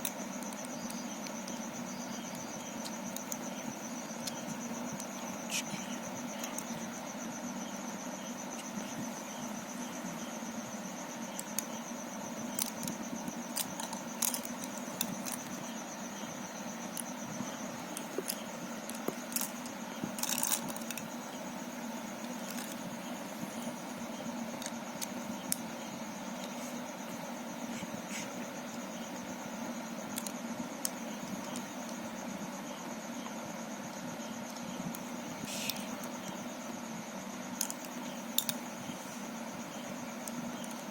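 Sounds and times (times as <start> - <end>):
background hum with high whine: 0.0 - 40.9.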